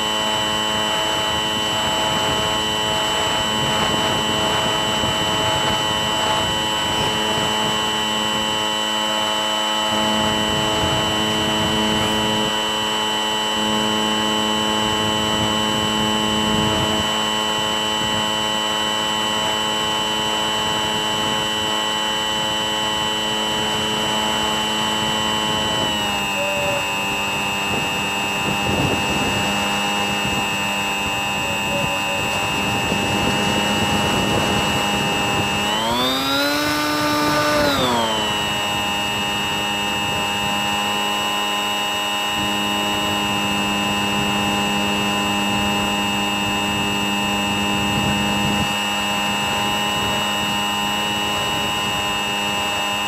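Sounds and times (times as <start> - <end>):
electric motor and propeller whining: 0.0 - 53.0
wind noise: 0.0 - 53.0.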